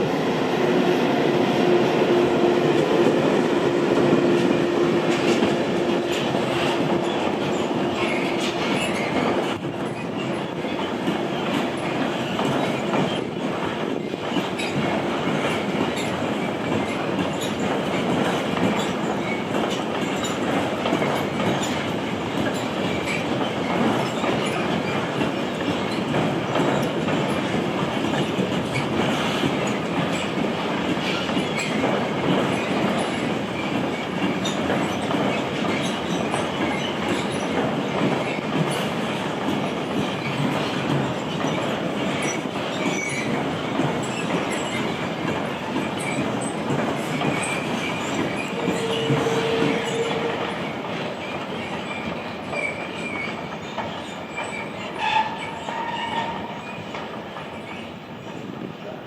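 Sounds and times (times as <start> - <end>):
freight train rattling past: 0.0 - 59.0
train wheel squeals: 4.0 - 30.4, 31.0 - 58.5.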